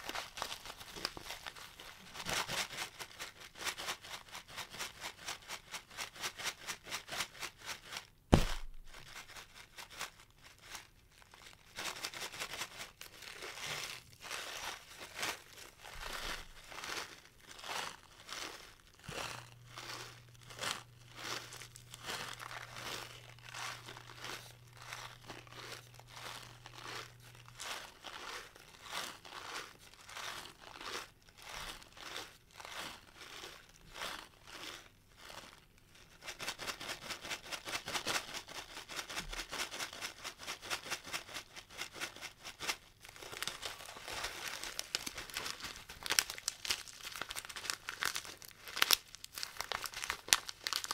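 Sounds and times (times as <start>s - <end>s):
packets crinkling and crunching: 0.0s - 3.5s, 8.3s - 36.1s, 41.1s - 50.9s.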